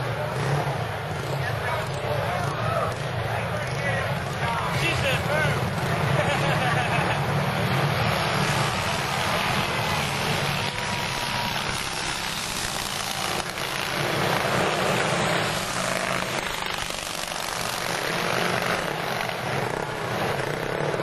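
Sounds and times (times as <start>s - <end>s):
motorcycle engines racing: 0.0s - 21.0s.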